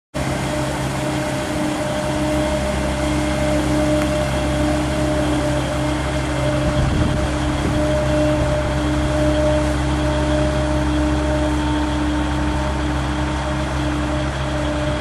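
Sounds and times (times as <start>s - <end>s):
hydraulic drive hum: 0.2s - 15.0s
low engine drone: 0.2s - 15.0s.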